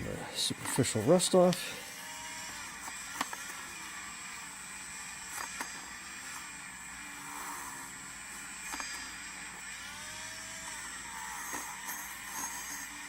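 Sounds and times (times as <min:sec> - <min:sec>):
rotary tool running: 0:00.0 - 0:13.0.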